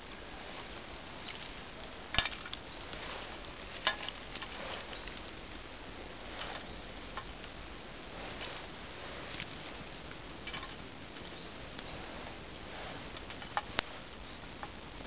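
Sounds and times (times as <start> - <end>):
wood fire crackling in metal stove: 0.0 - 15.0.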